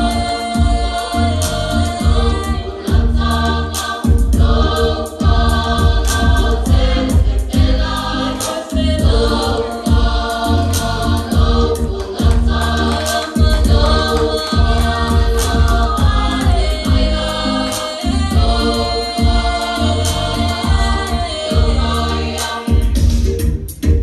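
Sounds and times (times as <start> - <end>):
group singing gospel song: 0.0 - 23.6
backing music with bass beat: 0.0 - 24.0.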